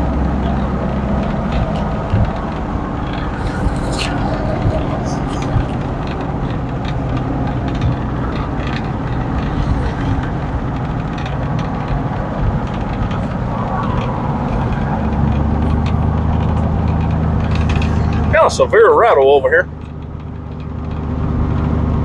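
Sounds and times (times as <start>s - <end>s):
road noise: 0.0s - 22.0s
truck engine running: 0.0s - 22.0s.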